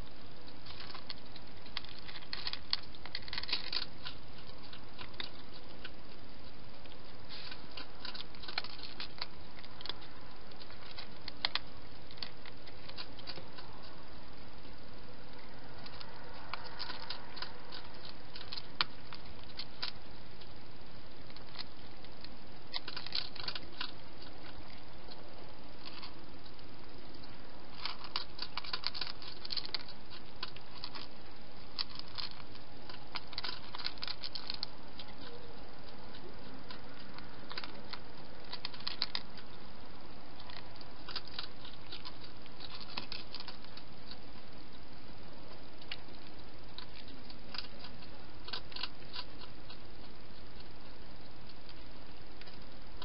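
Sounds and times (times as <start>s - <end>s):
hedgehog chewing and crunching: 0.0s - 53.0s.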